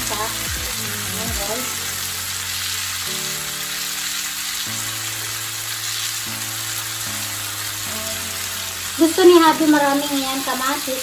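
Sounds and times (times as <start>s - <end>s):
fish frying in oil: 0.0s - 11.0s.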